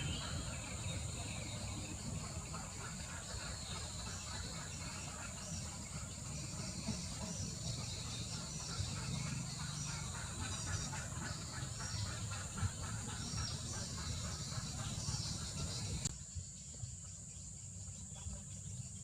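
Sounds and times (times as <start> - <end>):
bird chirps: 0.0 - 16.5
high insect drone: 0.0 - 18.0.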